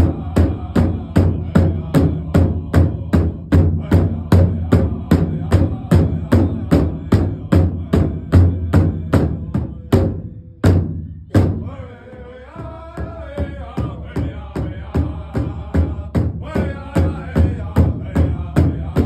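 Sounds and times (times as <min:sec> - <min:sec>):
big drum beating: 0:00.0 - 0:19.0
men singing: 0:00.0 - 0:19.0.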